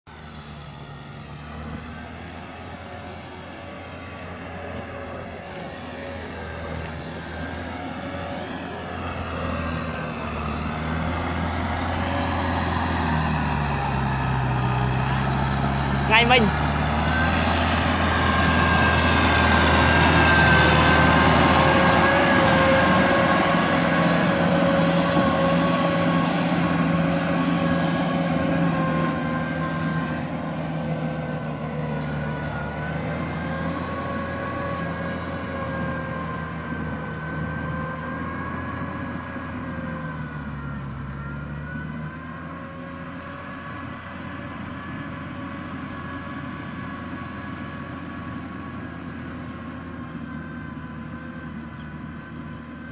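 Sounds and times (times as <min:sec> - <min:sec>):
tractor engine with high whine: 0:00.0 - 0:52.9.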